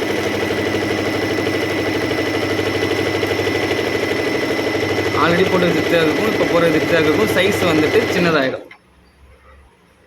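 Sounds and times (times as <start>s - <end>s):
sewing machine stitching: 0.0s - 8.7s.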